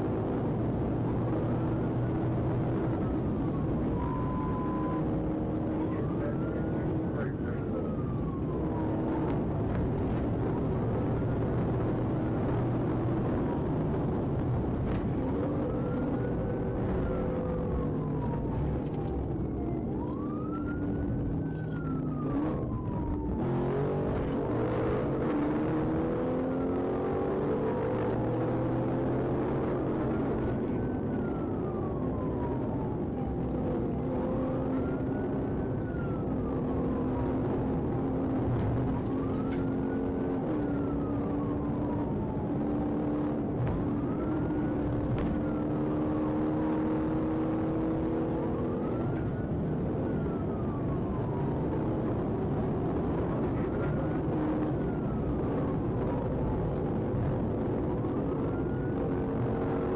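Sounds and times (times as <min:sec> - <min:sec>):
police siren wailing: 0:00.0 - 0:59.9
road noise: 0:00.0 - 0:59.9.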